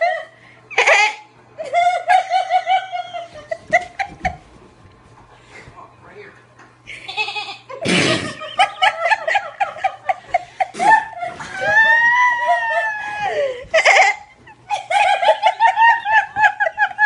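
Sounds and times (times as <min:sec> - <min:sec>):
people laughing: 0:00.0 - 0:04.4, 0:06.9 - 0:17.0.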